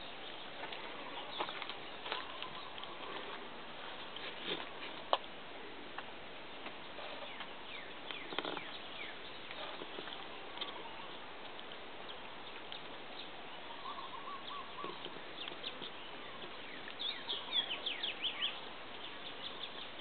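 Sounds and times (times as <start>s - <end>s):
birds chirping: 0.0s - 5.4s, 6.4s - 20.0s.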